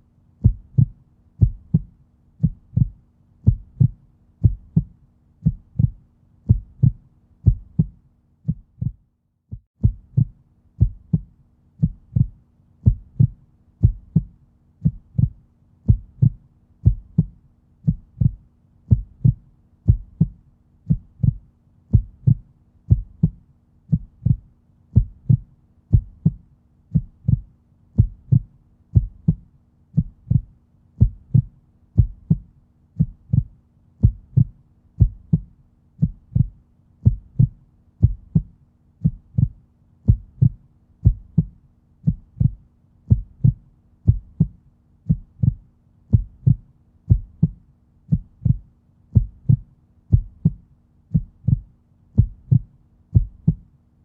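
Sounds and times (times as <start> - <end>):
faint low hum: 0.0 - 54.0
heartbeat: 0.4 - 53.7.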